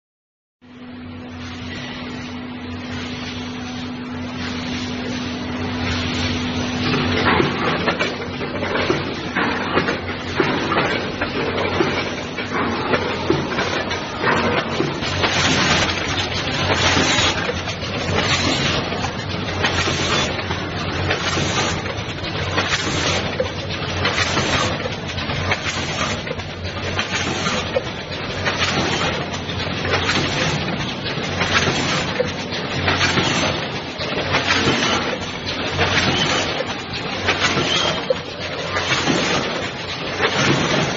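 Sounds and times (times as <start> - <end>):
packing machine hum and hiss: 0.7 - 40.9
mechanical clicks and clatter: 4.3 - 40.9.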